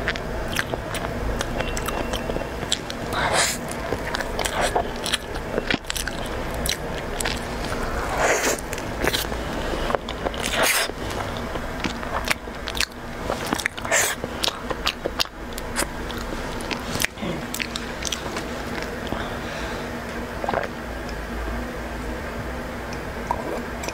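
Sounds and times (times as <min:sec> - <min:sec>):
biting and chewing pastry: 0:00.0 - 0:19.4.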